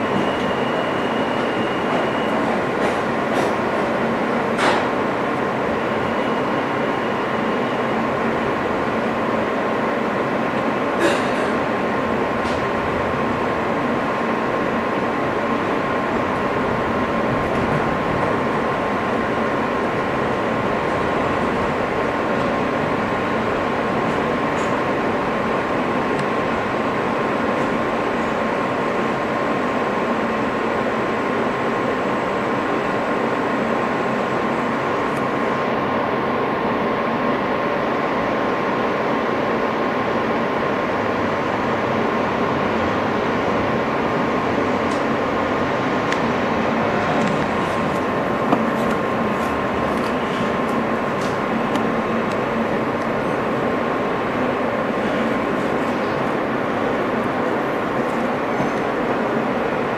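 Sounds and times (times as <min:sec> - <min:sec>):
rumble of wheels on rail: 0:00.0 - 0:59.9.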